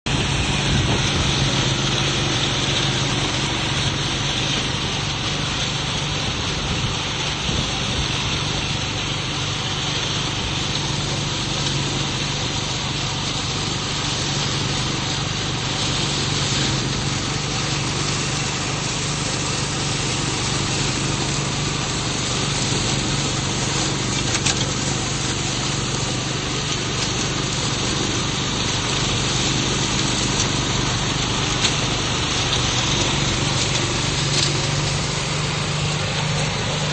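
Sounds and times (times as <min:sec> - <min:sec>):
flail mower whirring: 0:00.0 - 0:36.9
mower engine drone: 0:00.0 - 0:36.9.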